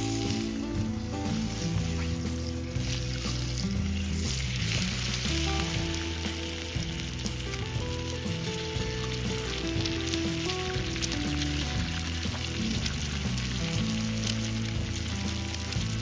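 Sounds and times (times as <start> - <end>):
food sizzling in a pan: 0.0 - 16.0
slow melodic background music: 0.0 - 16.0.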